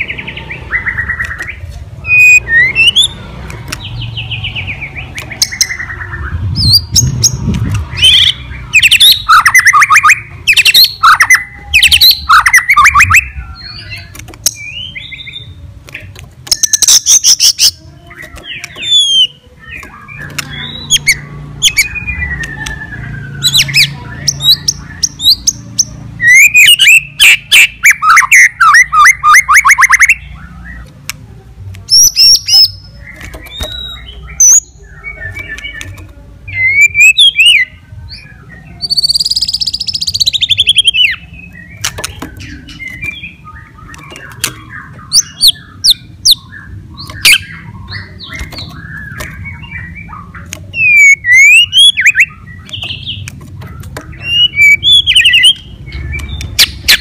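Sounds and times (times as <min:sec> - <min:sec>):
songbird whistles and clicks: 0:00.9 - 0:03.9, 0:06.6 - 0:15.1, 0:15.8 - 0:30.2, 0:31.8 - 0:38.2, 0:38.8 - 0:57.0.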